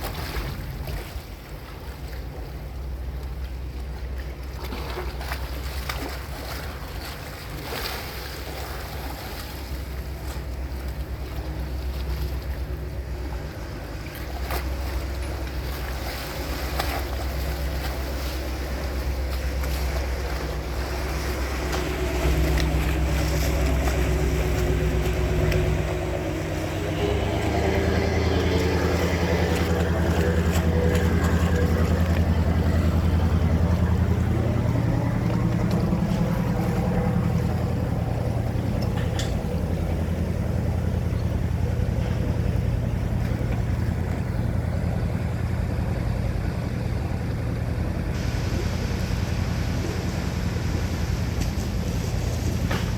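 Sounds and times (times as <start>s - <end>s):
ferry engine droning: 0.0s - 52.9s
water wash: 0.0s - 52.9s.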